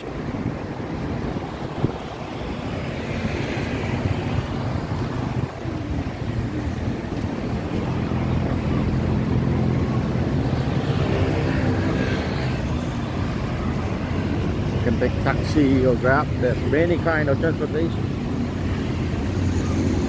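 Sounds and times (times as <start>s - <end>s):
street traffic rumbling: 0.0s - 20.0s
vehicle engine humming close by: 0.0s - 20.0s.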